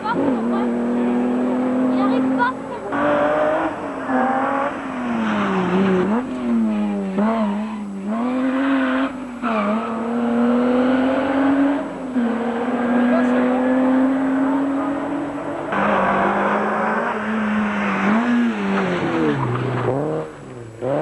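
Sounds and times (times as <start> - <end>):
rally car engine revving hard: 0.0 - 21.0.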